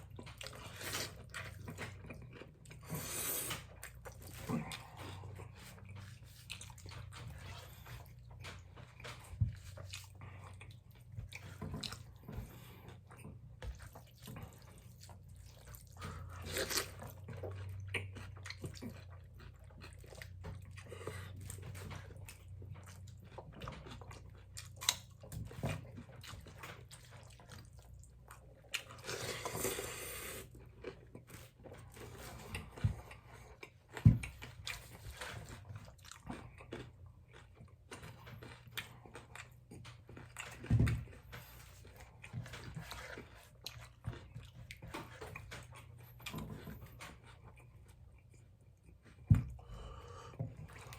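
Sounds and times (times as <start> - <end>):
chewing and slurping noodles: 0.0 - 50.9.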